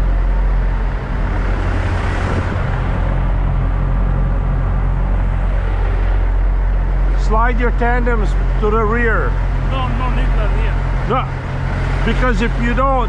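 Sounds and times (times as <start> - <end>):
diesel truck engine idling: 2.5 - 13.0.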